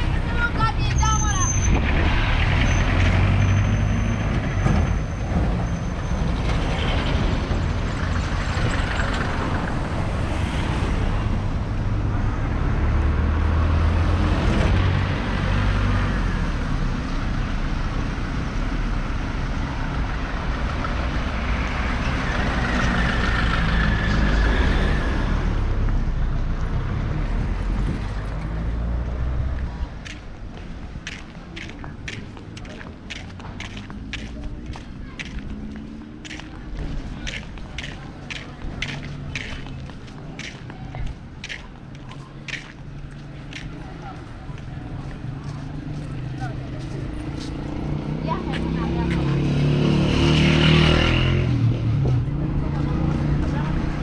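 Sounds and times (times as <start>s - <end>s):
passing vehicle engines: 0.0s - 54.0s
road noise: 0.0s - 54.0s.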